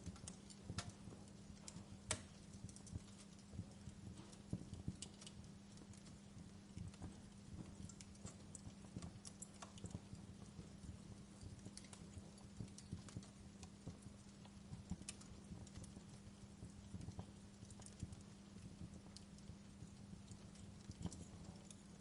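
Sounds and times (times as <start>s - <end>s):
faint low hum: 0.0s - 22.0s
wood fire crackling and popping: 0.0s - 22.0s.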